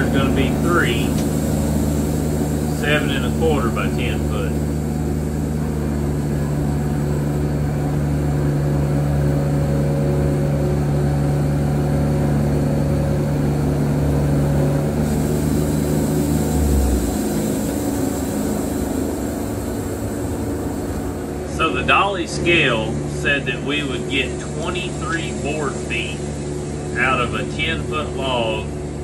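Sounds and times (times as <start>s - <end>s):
sawmill motor drone: 0.0s - 29.0s.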